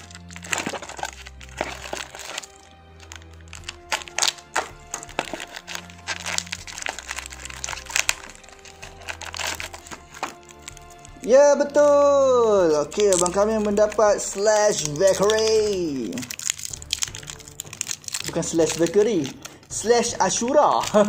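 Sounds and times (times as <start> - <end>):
background music: 0.0 - 21.0
foil bag crinkling: 0.0 - 21.0.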